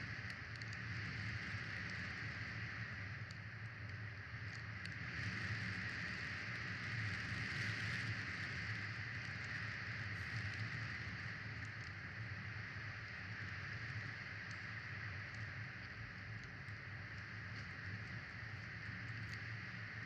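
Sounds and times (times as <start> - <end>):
faint ticks: 0.0 - 20.0.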